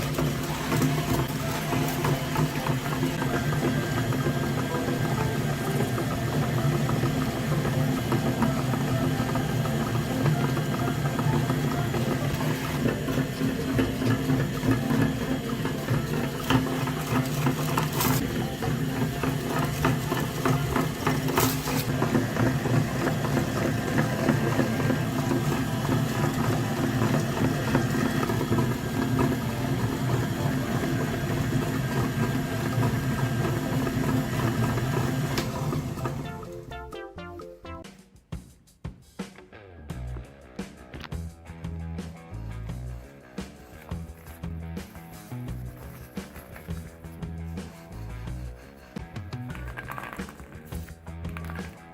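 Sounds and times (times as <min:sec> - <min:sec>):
motor running with rattle: 0:00.0 - 0:36.5, 0:42.7 - 0:51.9.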